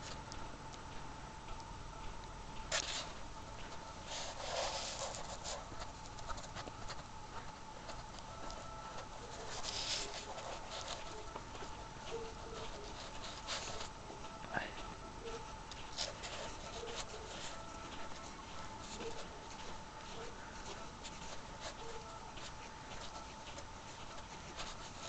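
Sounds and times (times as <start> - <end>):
rustling: 2.6 - 25.0
footsteps crunching in snow: 2.7 - 25.0.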